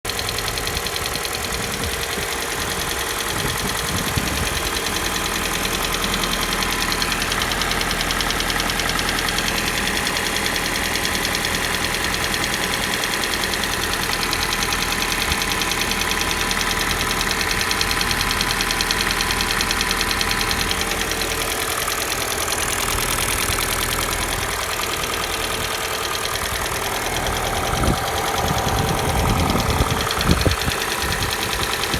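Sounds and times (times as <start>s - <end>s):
cold car engine knocking: 0.0s - 31.9s.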